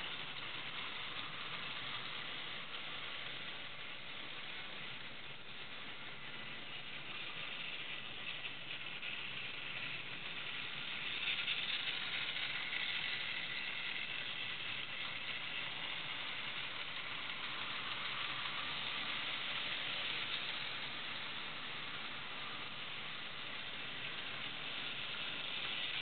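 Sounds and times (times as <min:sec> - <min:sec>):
model train rattling on rails: 0:00.0 - 0:26.0.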